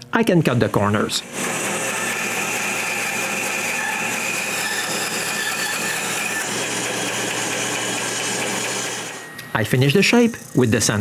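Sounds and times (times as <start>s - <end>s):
bandsaw cutting wood: 0.6s - 11.0s.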